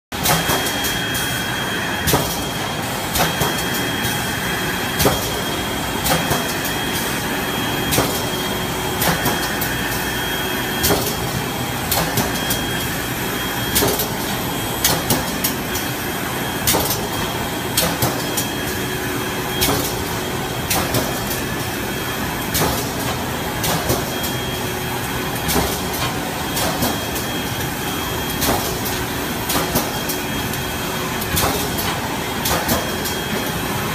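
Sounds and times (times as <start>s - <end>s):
machine running with high whine: 0.2s - 33.9s.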